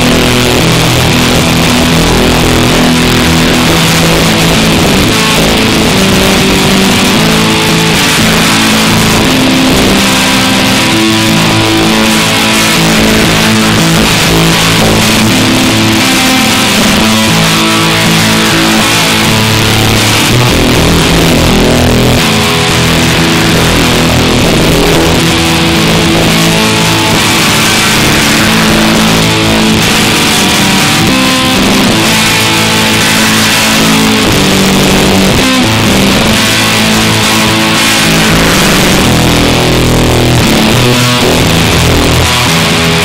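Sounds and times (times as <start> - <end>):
distorted electric guitar: 0.0 - 43.0.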